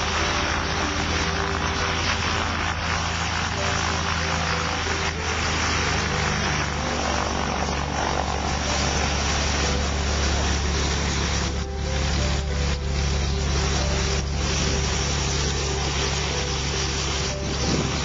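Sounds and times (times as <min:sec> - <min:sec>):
aircraft engine droning: 0:00.0 - 0:18.0.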